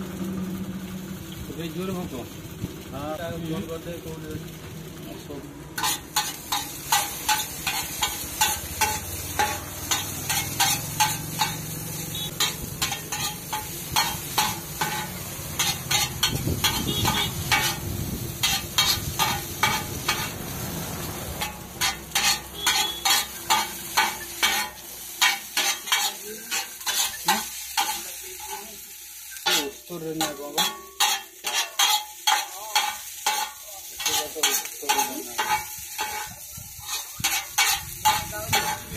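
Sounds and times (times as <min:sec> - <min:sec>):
food sizzling: 0:00.0 - 0:38.9
metal spatulas scraping a griddle: 0:05.8 - 0:20.7, 0:21.3 - 0:38.9.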